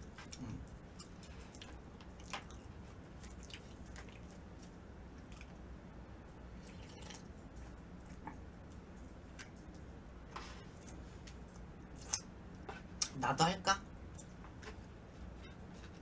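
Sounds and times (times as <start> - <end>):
soft chewing: 0.0 - 13.2, 14.1 - 16.0.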